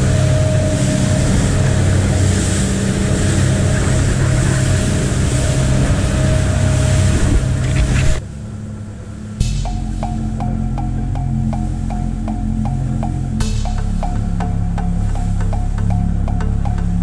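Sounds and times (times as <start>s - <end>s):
boat engine running: 0.0s - 8.2s, 9.4s - 17.0s.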